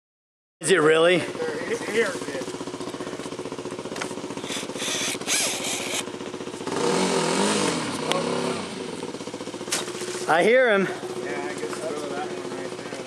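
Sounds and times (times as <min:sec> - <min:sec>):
dirt bike engine idling and revving: 0:00.6 - 0:13.0.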